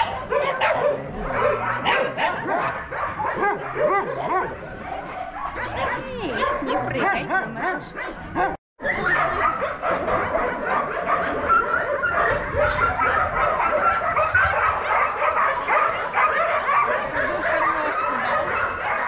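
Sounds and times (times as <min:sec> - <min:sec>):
many dogs barking and yelping: 0:00.0 - 0:19.0.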